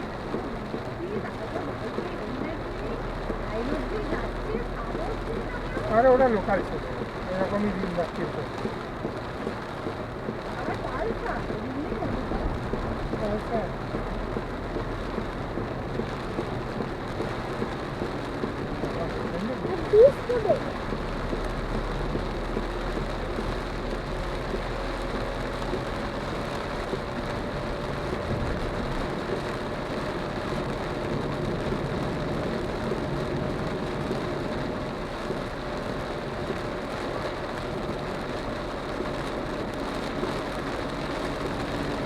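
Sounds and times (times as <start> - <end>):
heavy rain on car roof: 0.0 - 42.0.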